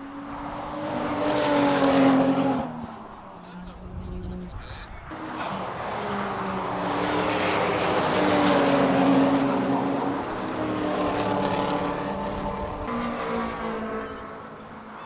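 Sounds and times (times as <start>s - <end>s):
racing car engine passing: 0.0s - 15.0s.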